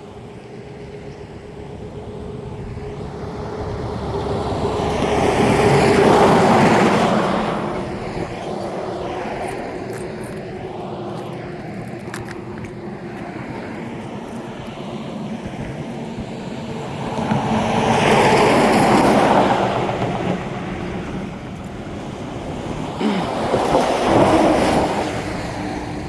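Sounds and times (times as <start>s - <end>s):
flowing river water: 0.3s - 26.0s.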